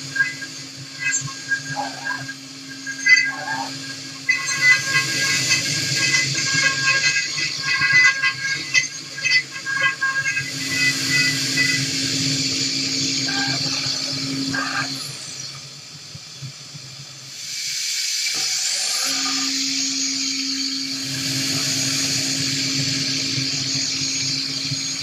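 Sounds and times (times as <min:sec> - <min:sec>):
milling machine hum: 0:00.0 - 0:17.4, 0:18.1 - 0:25.0.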